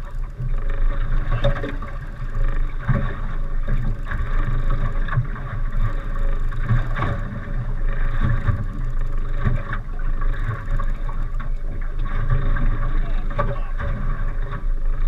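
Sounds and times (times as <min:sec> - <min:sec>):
boat engine humming: 0:00.0 - 0:15.0
water slapping against hull: 0:00.0 - 0:15.0.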